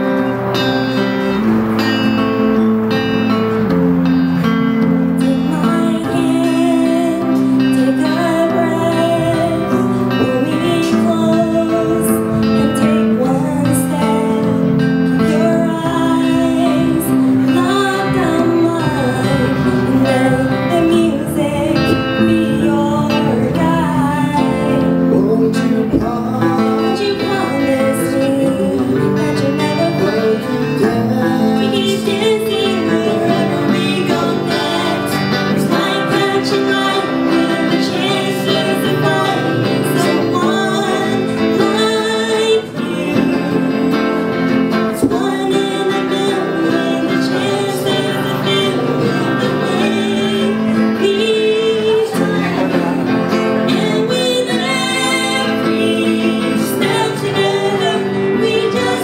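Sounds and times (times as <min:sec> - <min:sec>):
strummed electric guitar: 0:00.0 - 0:59.0
man and woman singing duet: 0:04.4 - 0:59.0.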